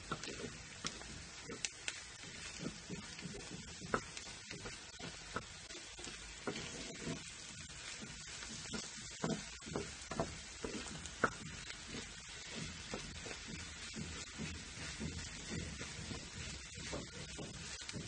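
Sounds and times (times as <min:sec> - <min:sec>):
eggs sizzling in a frying pan: 0:00.0 - 0:18.0
spatula scraping a pan: 0:00.0 - 0:18.0.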